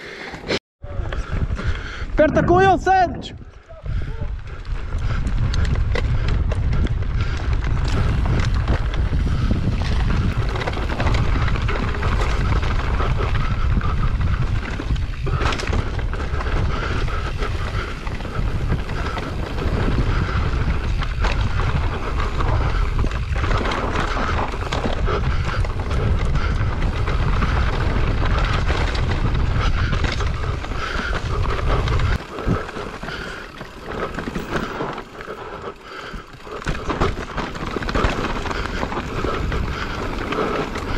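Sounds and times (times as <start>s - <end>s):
bike tyres on dirt: 0.2s - 40.9s
wind buffeting microphone: 0.8s - 40.9s
bike rattling and knocking: 3.9s - 40.9s.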